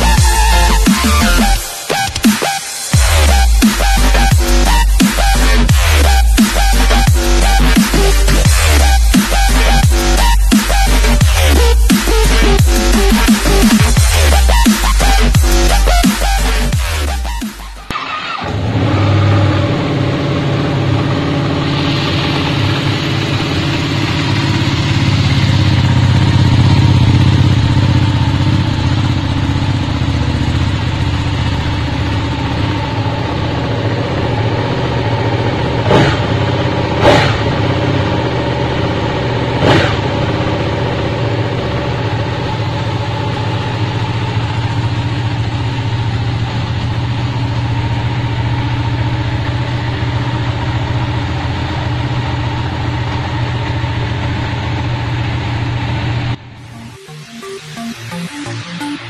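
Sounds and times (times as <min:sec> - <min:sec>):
motorcycle engine idling: 0:00.0 - 0:56.8.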